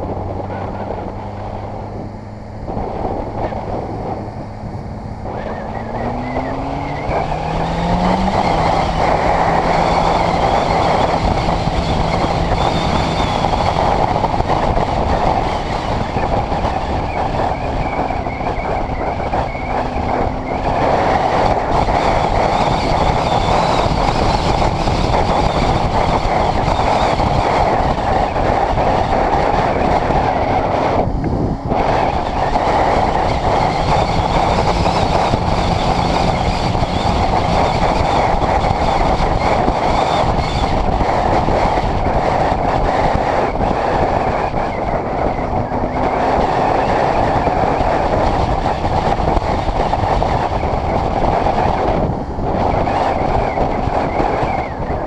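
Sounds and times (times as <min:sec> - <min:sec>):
motorcycle engine accelerating: 0:00.0 - 0:55.0
wind rushing on microphone: 0:00.0 - 0:55.0.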